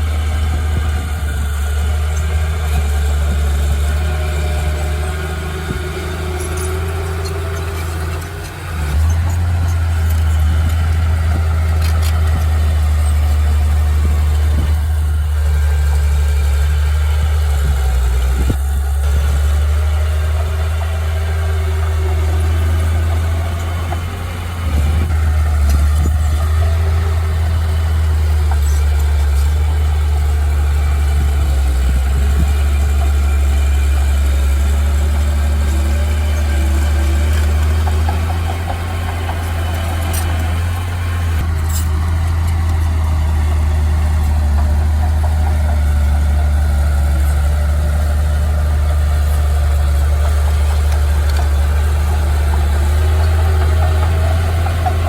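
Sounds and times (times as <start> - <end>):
heavy machine engine droning: 0.0 - 55.0.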